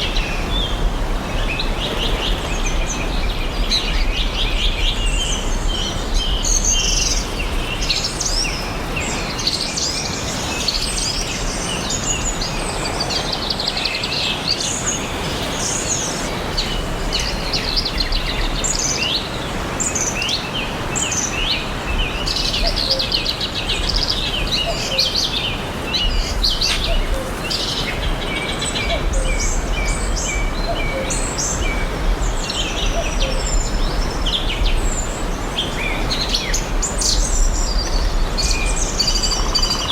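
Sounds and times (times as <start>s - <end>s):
forest ambience hiss: 0.0s - 39.9s
songbirds chirping and trilling: 0.0s - 39.9s.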